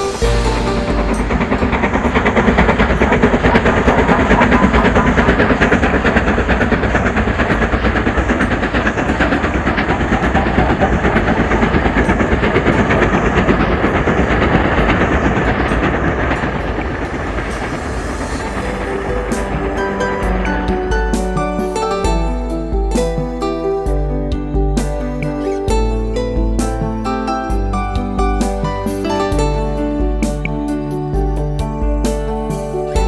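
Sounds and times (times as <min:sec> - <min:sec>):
train rumbling on track: 0:00.0 - 0:33.0
wheels clicking over rail joints: 0:00.0 - 0:33.0.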